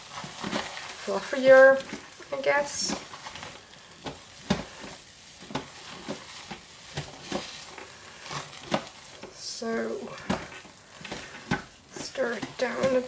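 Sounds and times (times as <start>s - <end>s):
spatula stirring thick soap paste: 0.0s - 13.0s
squelches and crackles: 0.0s - 13.0s.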